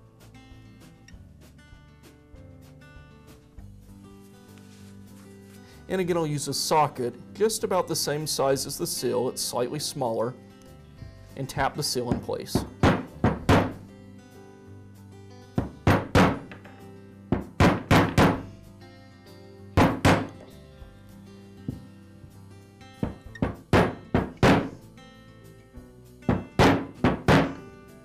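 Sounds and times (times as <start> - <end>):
soft background music: 0.0 - 28.0.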